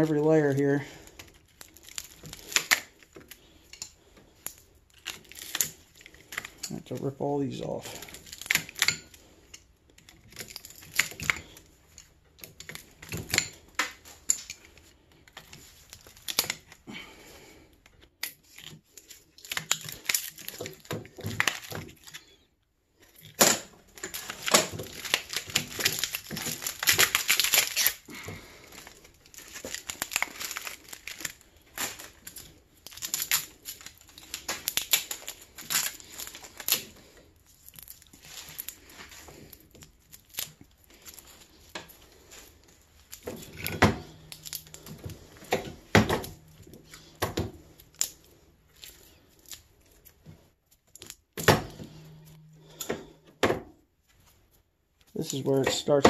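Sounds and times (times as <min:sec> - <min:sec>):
tape tearing and crinkling: 0:00.0 - 0:17.4, 0:18.1 - 0:22.4, 0:23.0 - 0:53.2.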